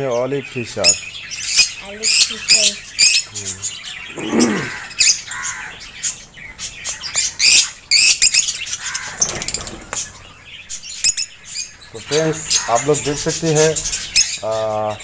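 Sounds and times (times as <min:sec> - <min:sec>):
lovebirds chirping and squawking: 0:00.0 - 0:15.0.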